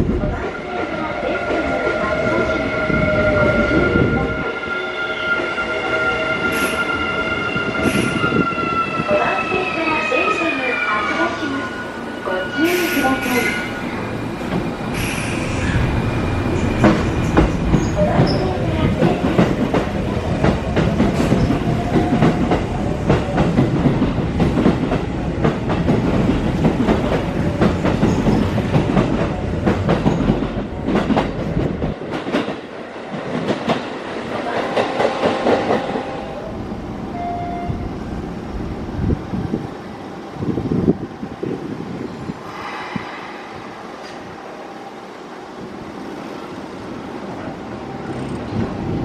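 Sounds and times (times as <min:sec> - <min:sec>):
electric train passing: 0:00.0 - 0:49.0.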